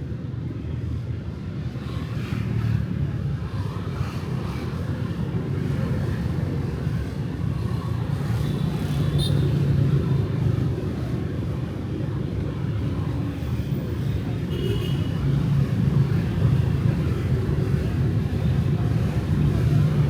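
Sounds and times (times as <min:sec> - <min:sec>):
cars and motorbikes passing: 0:01.4 - 0:20.0.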